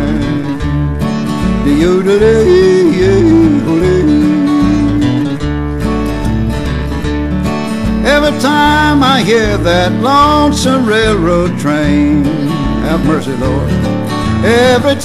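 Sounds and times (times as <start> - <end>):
acoustic guitar: 0.0 - 15.0
bass pattern: 0.0 - 15.0
country blues music: 0.0 - 15.0.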